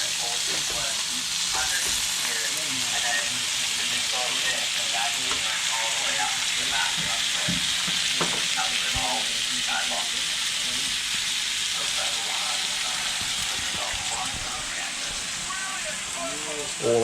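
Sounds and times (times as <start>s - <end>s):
meat sizzling on a barbecue: 0.0s - 17.0s.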